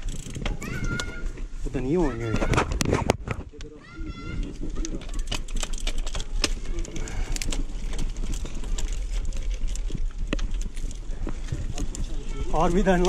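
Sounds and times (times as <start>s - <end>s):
bike rattling and clicking: 0.0s - 13.0s
bike tyres rumbling on concrete: 0.0s - 13.0s.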